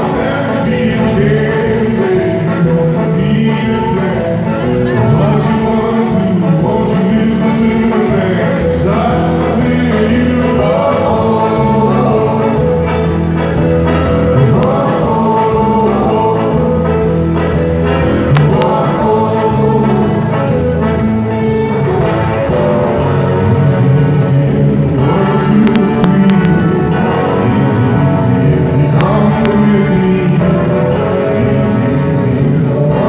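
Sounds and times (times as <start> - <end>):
live band with electric guitars: 0.0 - 33.0
man singing lead vocals: 0.0 - 33.0.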